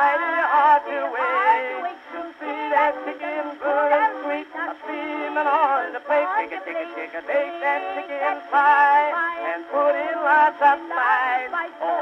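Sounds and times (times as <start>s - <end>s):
old phonograph vaudeville song: 0.0s - 12.0s.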